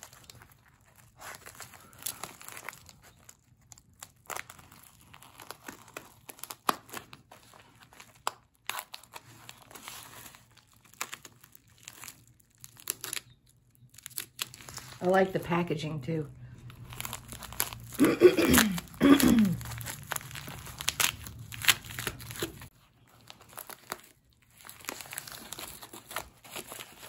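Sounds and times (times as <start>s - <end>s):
plastic mailer crinkling: 0.0s - 15.8s, 16.4s - 27.0s.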